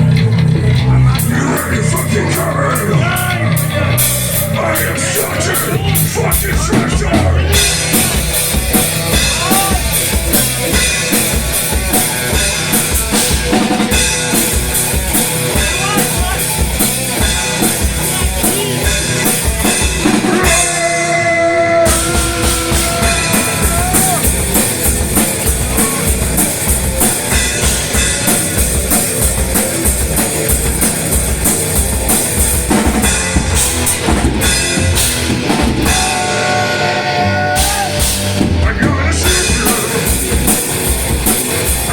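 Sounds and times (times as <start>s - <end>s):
drum kit kick-drum beat: 0.0s - 21.3s, 21.9s - 41.9s
bass guitar: 0.0s - 41.9s
distorted electric guitar: 0.0s - 41.9s.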